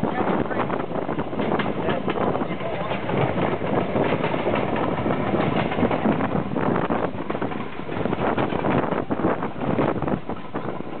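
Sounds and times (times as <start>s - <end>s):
diesel locomotive engine running: 0.0s - 11.0s
rattling train wheels: 0.0s - 11.0s.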